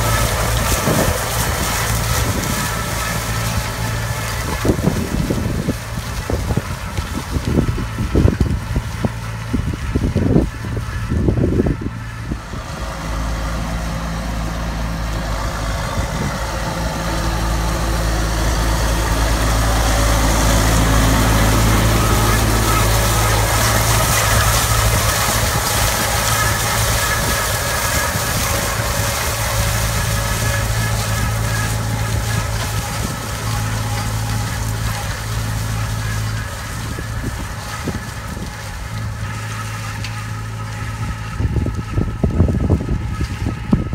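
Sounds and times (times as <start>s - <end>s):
dry stalks rustling and rattling: 0.0s - 43.9s
tractor engine running: 0.0s - 43.9s.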